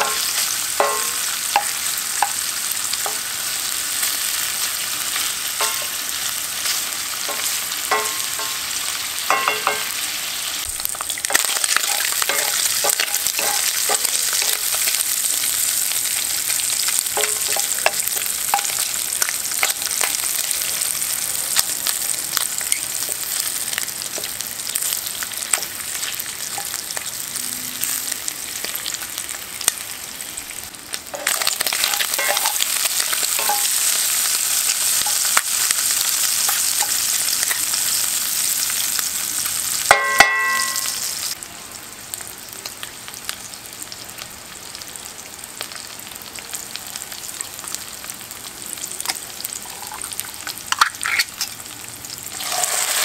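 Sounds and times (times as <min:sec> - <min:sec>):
food sizzling in hot oil: 0:00.0 - 0:53.0.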